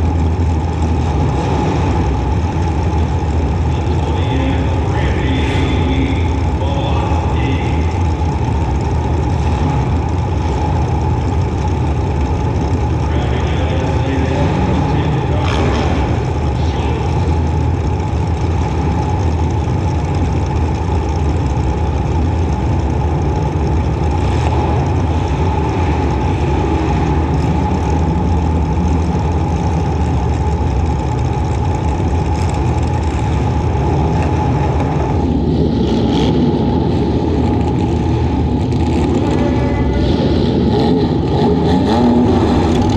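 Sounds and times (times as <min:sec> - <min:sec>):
car engine running hard: 0:00.0 - 0:42.9.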